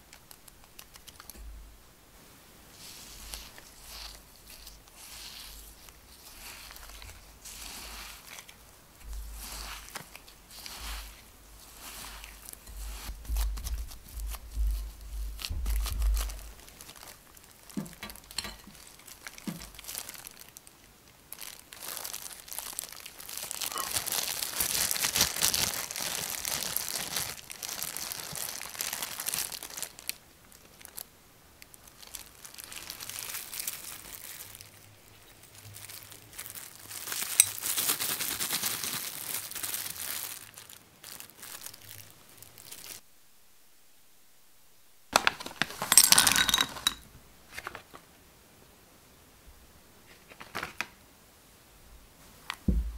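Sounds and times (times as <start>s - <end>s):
rustling and crinkling: 0.0s - 43.0s, 45.2s - 48.2s, 50.0s - 51.0s.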